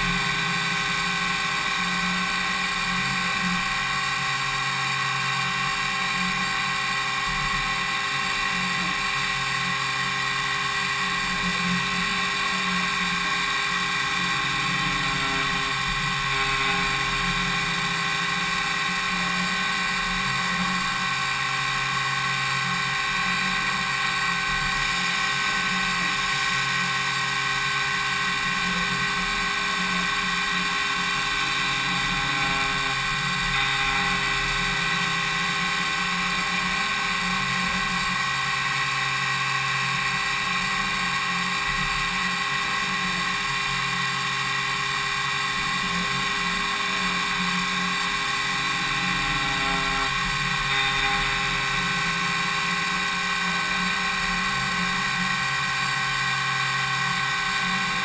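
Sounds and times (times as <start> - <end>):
milling machine high-pitched whine: 0.0 - 58.0.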